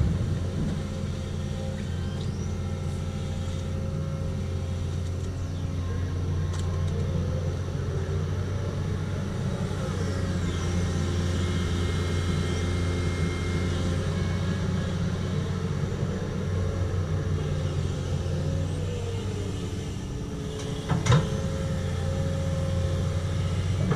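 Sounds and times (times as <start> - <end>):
excavator diesel engine: 0.0 - 23.9.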